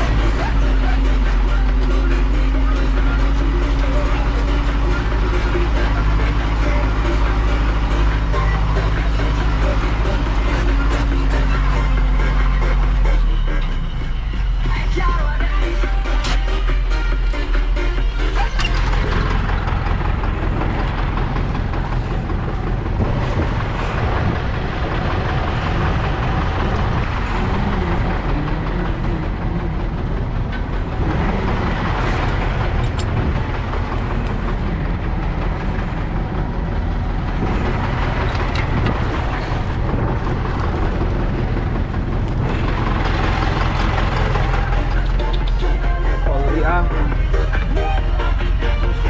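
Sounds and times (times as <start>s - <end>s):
heavy farm vehicle engine: 0.0s - 49.0s.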